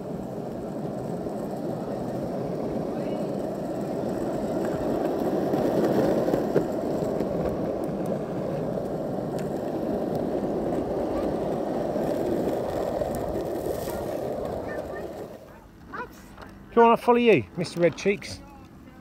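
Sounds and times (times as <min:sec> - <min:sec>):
wheels rolling over gravelly path: 0:00.0 - 0:18.9.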